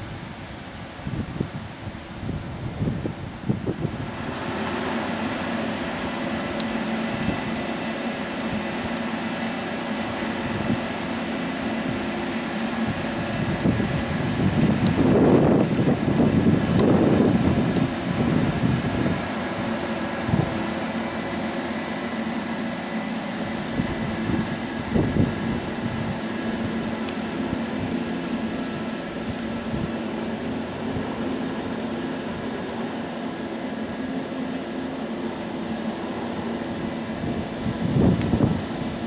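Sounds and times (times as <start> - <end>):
chairlift mechanical hum: 0.0 - 39.0
faint high whine: 0.0 - 39.0.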